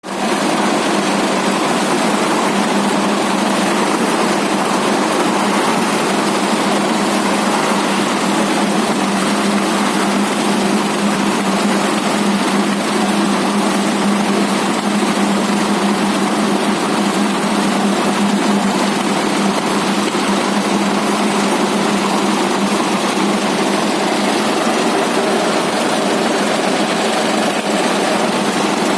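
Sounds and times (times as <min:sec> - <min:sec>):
concrete mixer engine running: 0:00.0 - 0:28.9.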